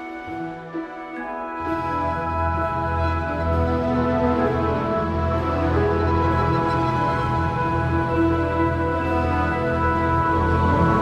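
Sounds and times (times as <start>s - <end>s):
slow sustained background music: 0.0s - 11.0s.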